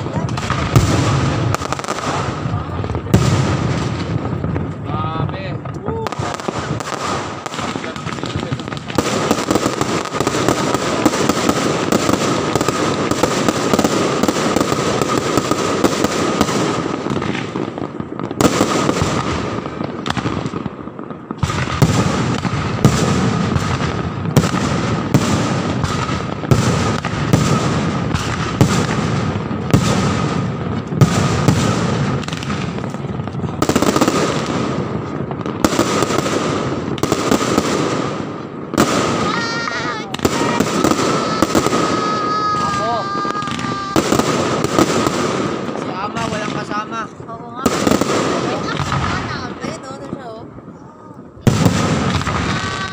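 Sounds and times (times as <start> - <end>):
fireworks and firecrackers banging: 0.0 - 52.9.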